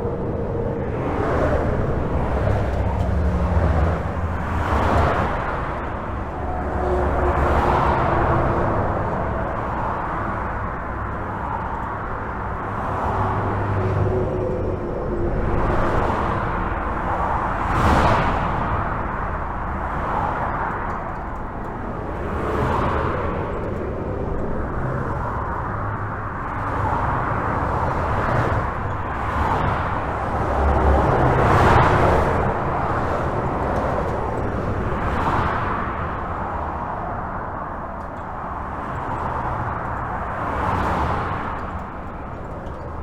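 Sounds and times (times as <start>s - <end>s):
low rumble: 0.0s - 35.0s
highway traffic rushing: 0.0s - 43.0s
vehicles passing: 0.0s - 43.0s.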